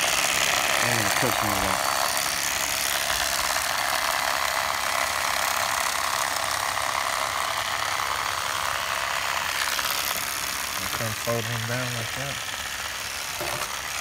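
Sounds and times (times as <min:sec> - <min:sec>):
electric knife motor buzzing: 0:00.0 - 0:14.0.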